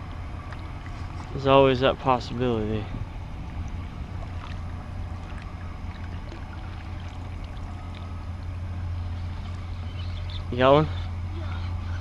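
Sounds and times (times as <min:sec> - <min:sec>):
light water sounds: 0:00.0 - 0:09.8
steady low rumble: 0:00.0 - 0:12.0.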